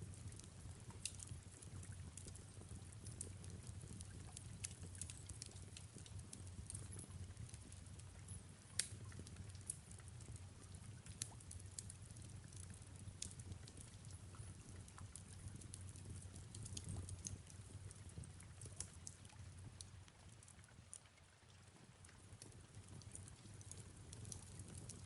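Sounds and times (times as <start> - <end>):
wood fire crackling: 0.0 - 21.1, 22.0 - 25.0.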